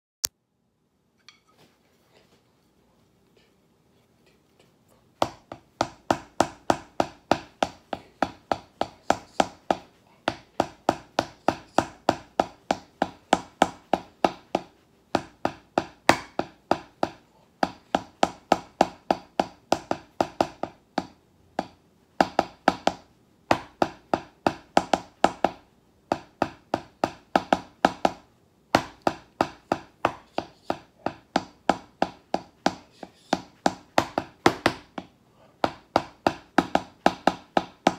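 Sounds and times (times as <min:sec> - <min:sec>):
drumsticks tapping practice pad: 0:05.2 - 0:37.9.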